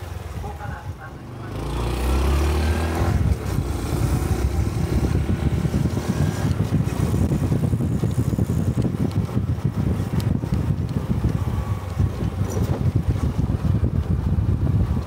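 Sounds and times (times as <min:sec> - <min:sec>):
motorcycle engine running: 0:00.0 - 0:15.0
wind rumbling on microphone: 0:00.0 - 0:15.0.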